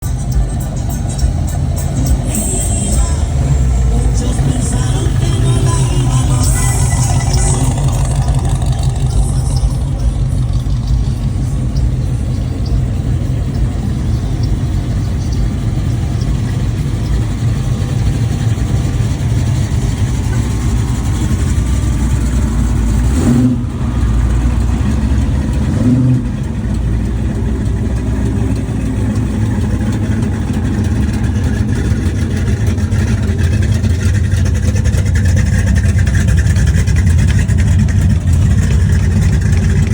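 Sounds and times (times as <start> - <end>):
car engines running: 0.0 - 39.9.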